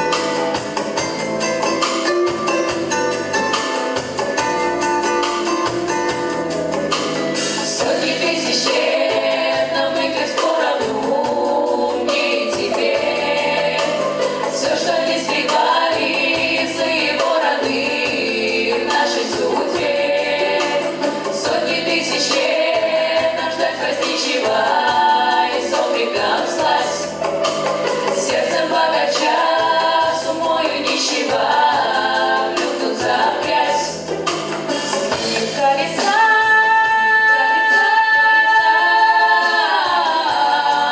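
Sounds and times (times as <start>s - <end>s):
band backing with steady beat: 0.0s - 40.9s
pop vocal ensemble singing: 6.9s - 40.9s.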